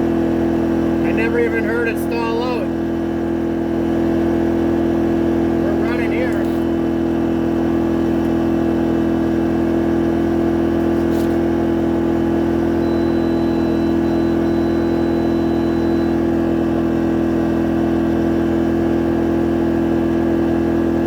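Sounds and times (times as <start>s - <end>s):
generator running steadily: 0.0s - 21.0s.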